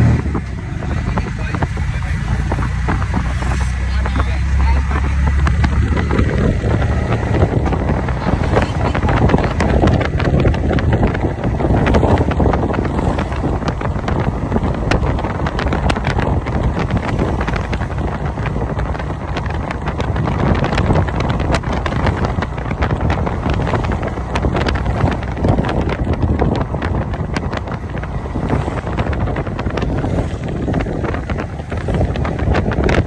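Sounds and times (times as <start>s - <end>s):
road and vehicle noise: 0.0s - 33.0s
wind buffeting microphone: 0.0s - 33.0s.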